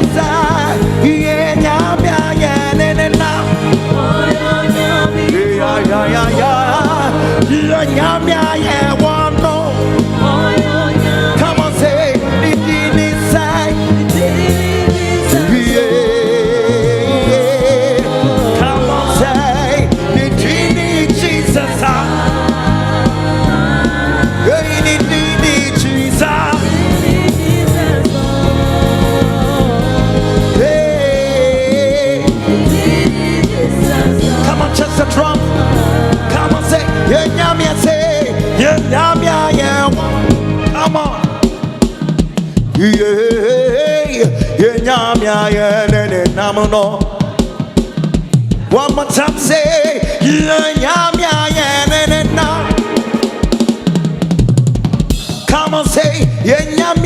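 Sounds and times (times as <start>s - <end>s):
gospel band with bass and drums: 0.0s - 57.0s
people singing with vibrato: 0.0s - 57.0s.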